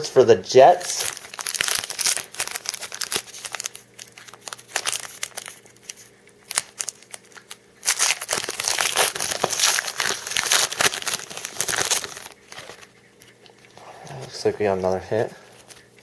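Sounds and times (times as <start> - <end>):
wrapper crinkling and tearing: 0.6 - 16.0
cards being handled: 0.8 - 16.0.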